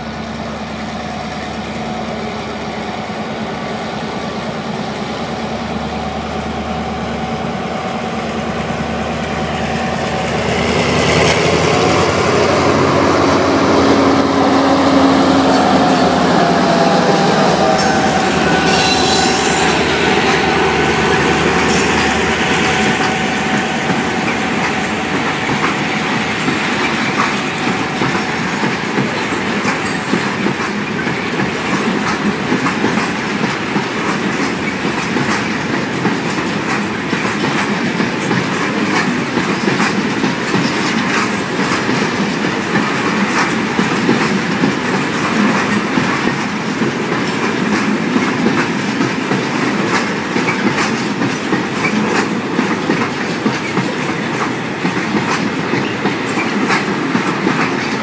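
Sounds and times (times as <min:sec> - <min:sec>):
freight train wheels clattering: 0:09.2 - 0:58.0.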